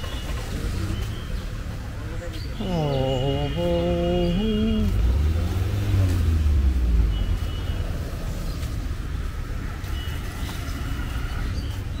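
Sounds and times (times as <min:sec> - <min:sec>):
vehicle engine passing by: 0:00.0 - 0:11.9.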